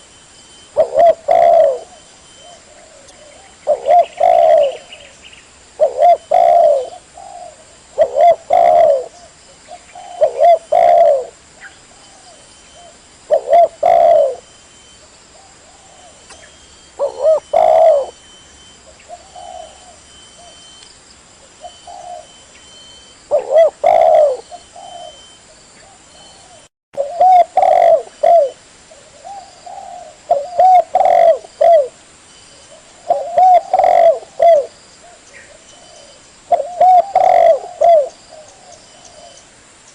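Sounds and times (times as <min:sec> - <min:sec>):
dove cooing: 0:00.7 - 0:05.1, 0:05.8 - 0:14.6, 0:15.4 - 0:20.7, 0:21.4 - 0:39.4.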